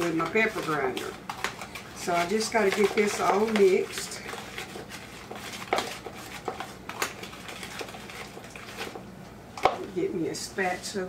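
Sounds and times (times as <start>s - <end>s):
spoon stirring thick mixture: 0.0s - 11.0s.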